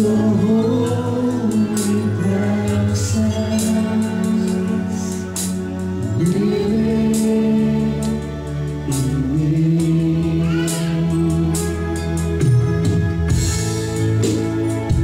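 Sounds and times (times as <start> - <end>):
singer holding long notes: 0.0 - 13.1
keyboard: 0.0 - 15.0.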